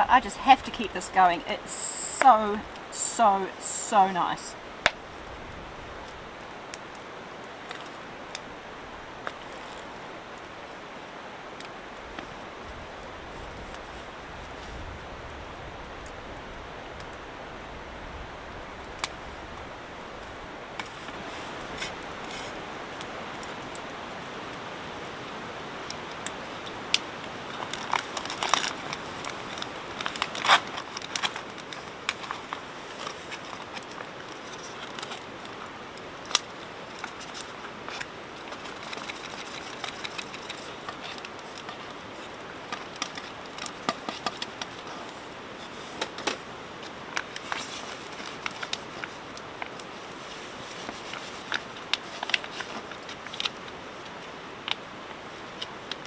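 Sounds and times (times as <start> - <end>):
wood fire crackling and hissing: 0.0 - 56.0.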